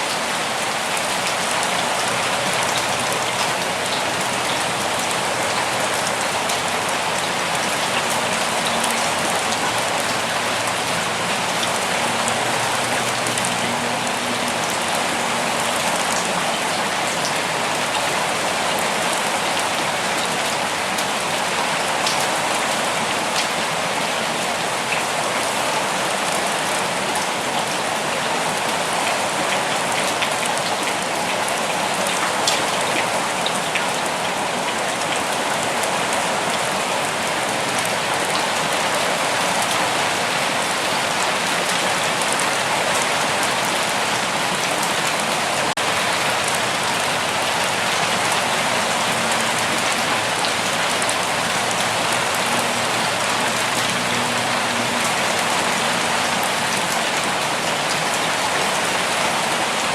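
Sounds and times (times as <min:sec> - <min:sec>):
raindrops pattering on leaves: 0:00.0 - 0:59.9.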